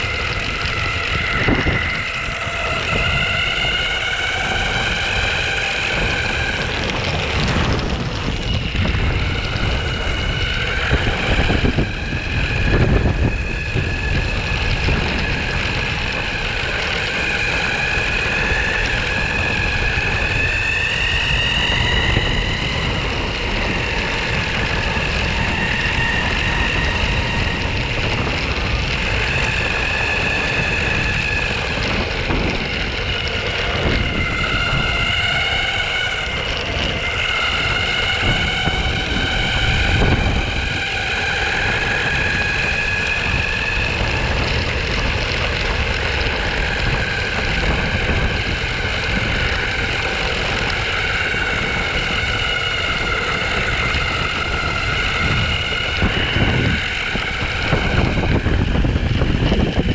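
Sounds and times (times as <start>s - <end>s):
electric motor whine: 0.0s - 59.9s
low rumble: 0.0s - 59.9s.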